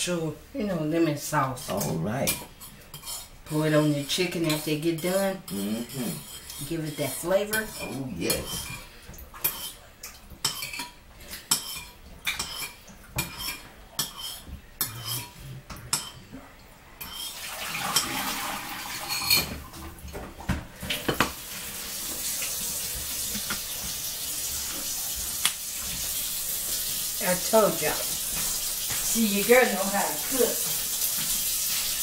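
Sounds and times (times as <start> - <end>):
running tap water: 1.6 - 32.0.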